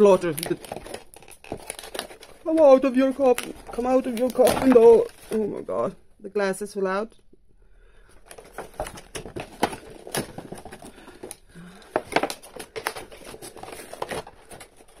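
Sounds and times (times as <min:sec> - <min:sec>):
cardboard and plastic packaging crinkling: 0:00.0 - 0:05.9, 0:08.0 - 0:15.0.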